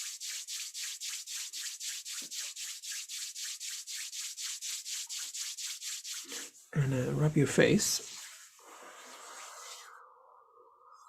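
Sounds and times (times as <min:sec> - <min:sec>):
palms rubbing together: 0:00.0 - 0:10.0.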